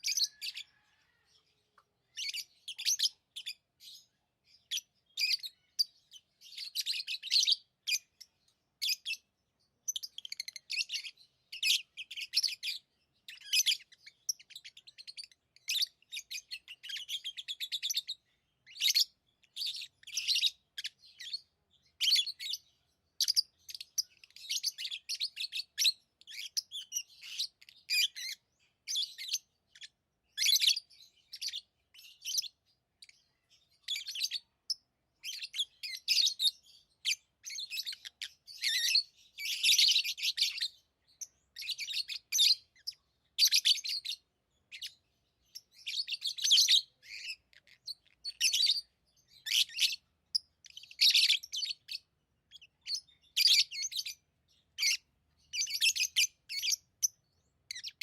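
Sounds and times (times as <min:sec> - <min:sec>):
lovebirds chirping and trilling: 0:00.0 - 0:58.0.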